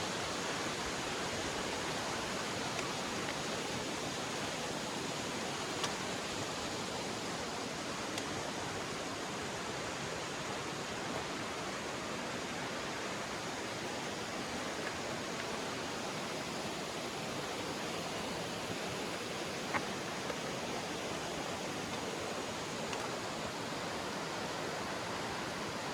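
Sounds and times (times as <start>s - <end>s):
river rushing: 0.0s - 25.9s.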